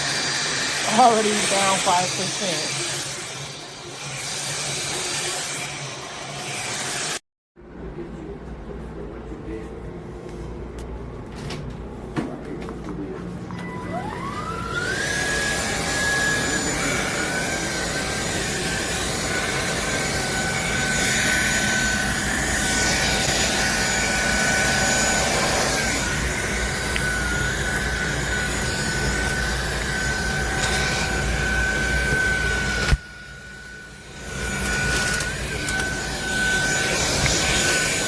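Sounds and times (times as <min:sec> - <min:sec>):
vacuum motor whining: 0:00.0 - 0:07.1, 0:13.4 - 0:38.0.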